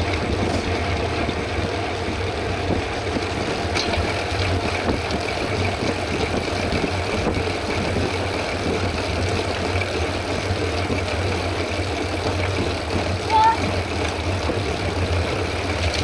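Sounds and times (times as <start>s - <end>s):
bike tyres rumbling on road: 0.0s - 16.0s
wind buffeting microphone: 0.0s - 16.0s.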